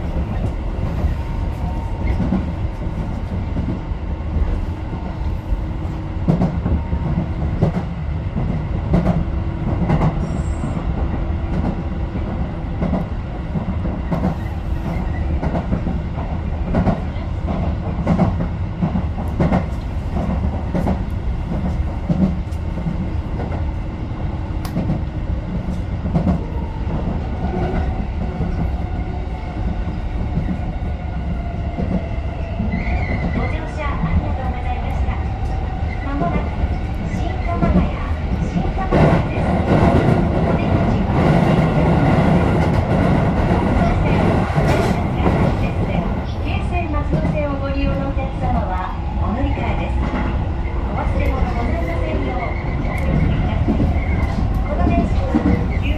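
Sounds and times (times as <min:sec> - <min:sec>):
train rumble: 0:00.0 - 0:55.9.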